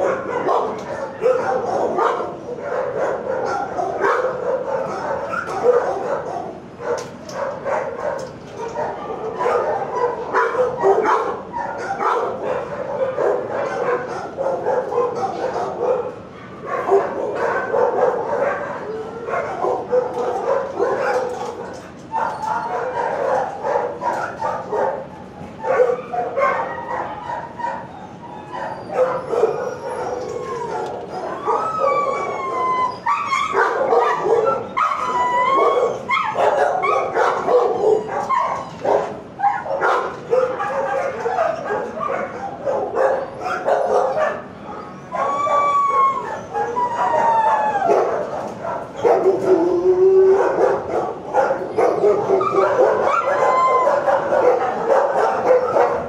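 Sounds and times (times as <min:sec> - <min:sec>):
dogs barking: 0:00.0 - 0:56.0
dogs howling: 0:00.0 - 0:56.0.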